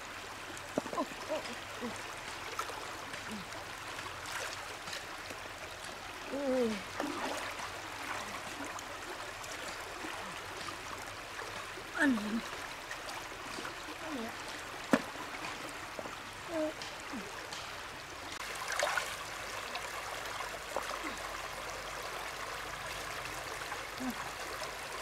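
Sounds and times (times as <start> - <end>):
river water flowing over rocks: 0.0 - 25.0.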